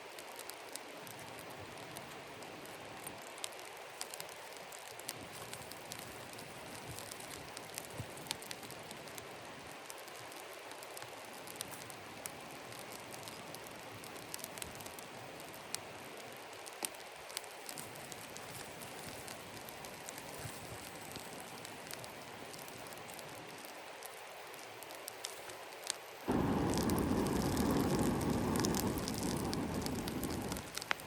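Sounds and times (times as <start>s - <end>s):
fire crackles and pops: 0.0s - 31.0s
campfire hissing: 0.1s - 31.0s.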